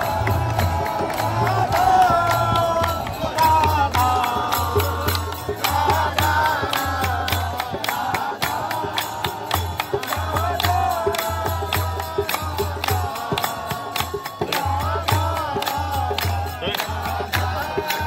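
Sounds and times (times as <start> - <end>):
group singing a devotional chant: 0.0 - 18.0
rhythmic hand clapping: 0.0 - 18.0.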